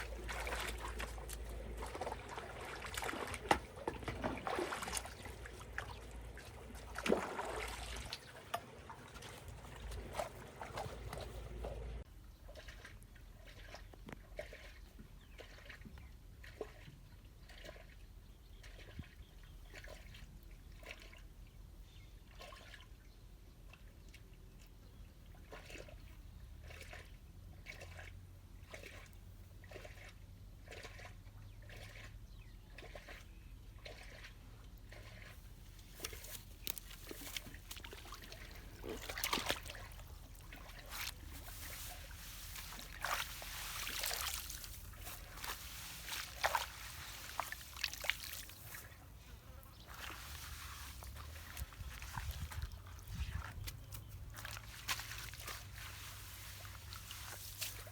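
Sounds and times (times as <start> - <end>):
water trickling and splashing: 0.0 - 57.9.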